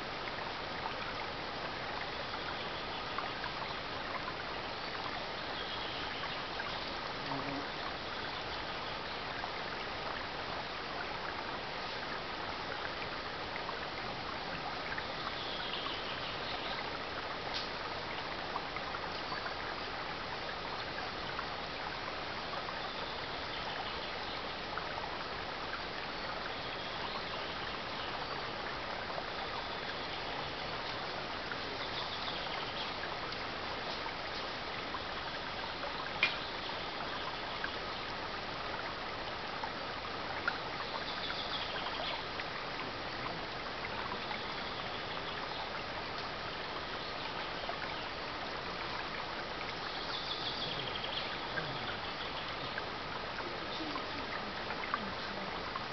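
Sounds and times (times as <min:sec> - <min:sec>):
stream babbling over stones: 0:00.0 - 0:55.9.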